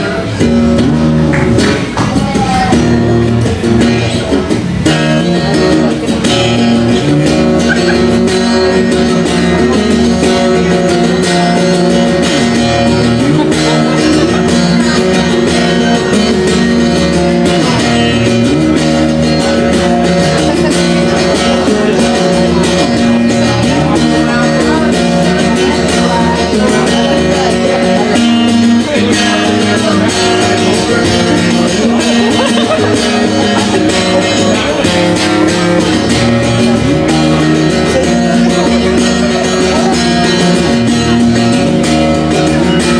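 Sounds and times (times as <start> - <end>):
guitar strummed and picked: 0.0 - 42.9.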